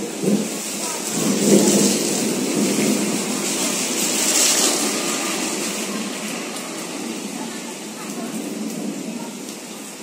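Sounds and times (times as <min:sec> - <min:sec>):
heavy rain falling: 0:00.0 - 0:10.0
motorbikes passing on wet road: 0:00.0 - 0:10.0.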